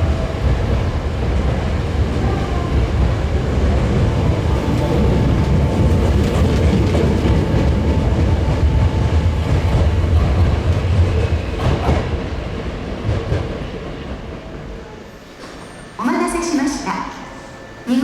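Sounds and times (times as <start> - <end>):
train wheels clacking: 0.0 - 16.0
train rumbling on rails: 0.0 - 18.0.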